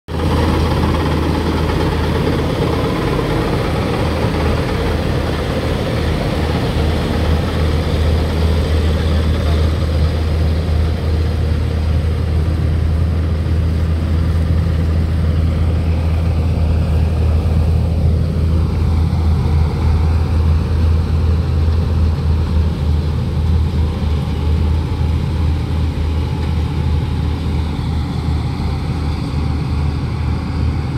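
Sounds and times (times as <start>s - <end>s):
combine harvester engine drone: 0.1s - 30.9s.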